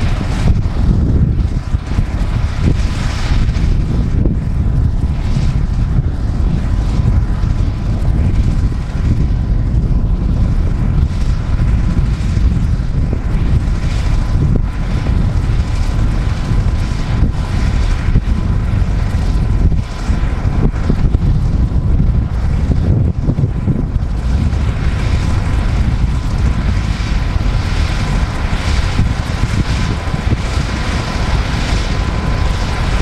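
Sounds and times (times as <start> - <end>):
helicopter rotor rumble: 0.0 - 33.0
turbine whine: 0.0 - 33.0
wind buffeting microphone: 0.0 - 33.0.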